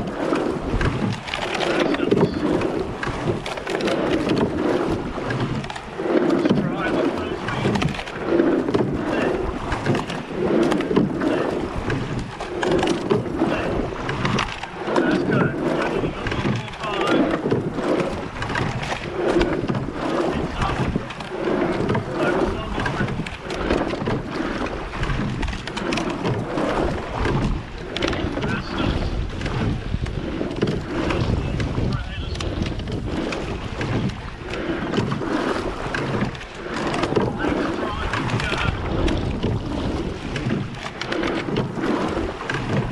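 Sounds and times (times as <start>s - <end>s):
oars clicking and knocking: 0.0s - 42.9s
oars splashing through water: 0.0s - 42.9s
water rushing along hull: 0.0s - 42.9s
wind on microphone: 0.0s - 42.9s.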